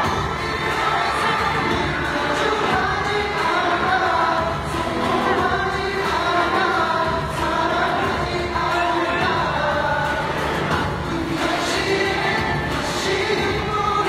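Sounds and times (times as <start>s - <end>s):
pop music with voices singing: 0.0s - 14.0s.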